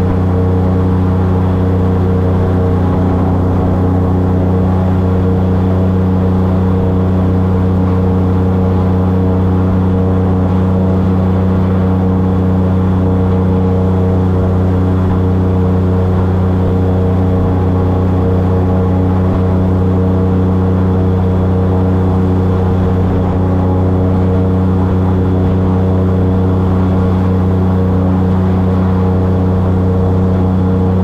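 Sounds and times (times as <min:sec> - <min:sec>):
airboat engine drone: 0:00.0 - 0:31.0.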